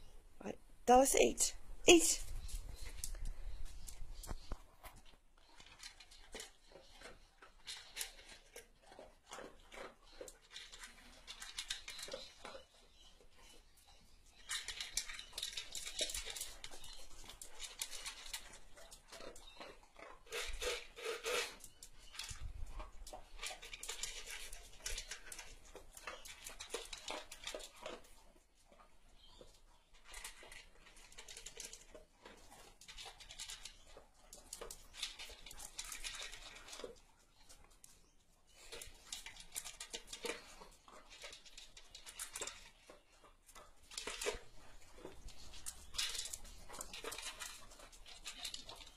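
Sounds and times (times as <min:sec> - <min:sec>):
dog chewing and licking: 0:02.4 - 0:48.9.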